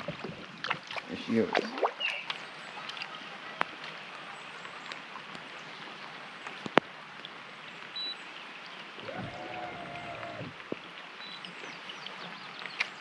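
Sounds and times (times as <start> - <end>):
steady rain falling: 2.4 - 13.0.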